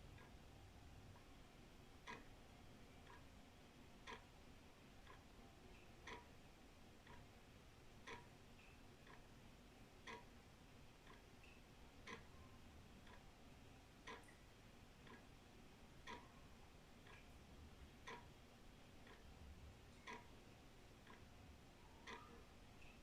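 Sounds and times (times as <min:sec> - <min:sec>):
wall clock ticking: 0:00.0 - 0:00.4, 0:01.9 - 0:03.4, 0:04.0 - 0:23.0.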